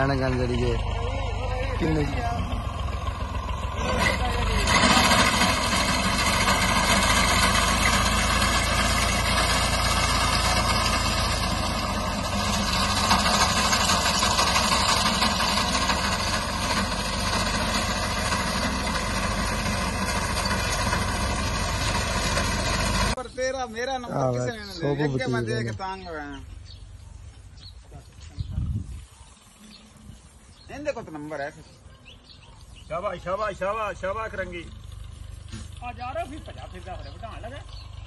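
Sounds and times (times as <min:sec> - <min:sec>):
tractor engine running: 0:00.0 - 0:31.6, 0:32.2 - 0:38.0.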